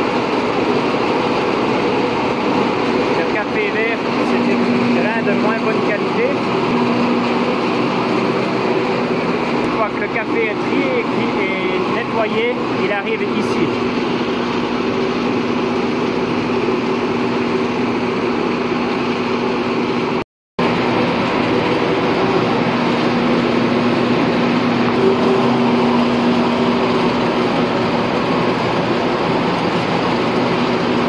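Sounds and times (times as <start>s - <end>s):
machinery motor hum: 0.0s - 31.0s.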